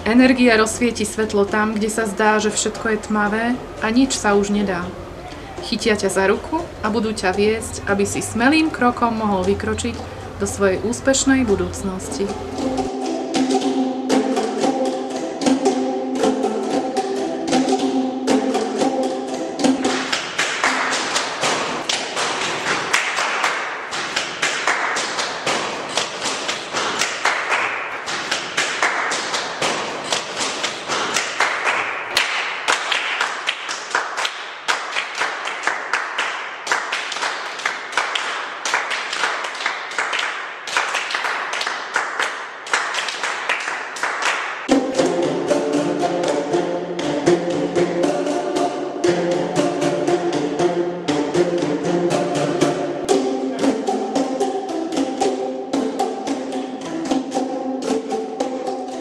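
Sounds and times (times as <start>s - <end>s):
rapid percussive tapping: 11.2s - 59.0s.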